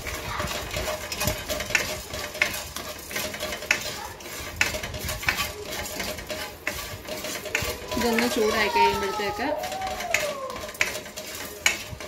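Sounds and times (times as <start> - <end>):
spoon scraping spices in a pan: 0.0 - 12.0
spoon tapping pan: 0.1 - 12.0.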